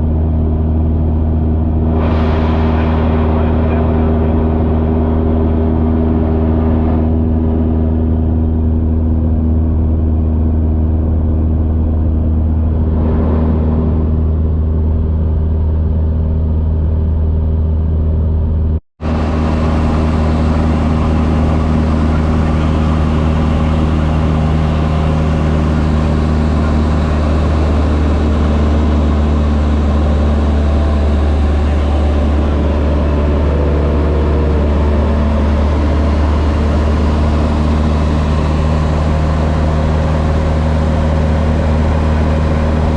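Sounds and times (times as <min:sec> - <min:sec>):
propeller airplane engine droning: 0:00.0 - 0:42.9.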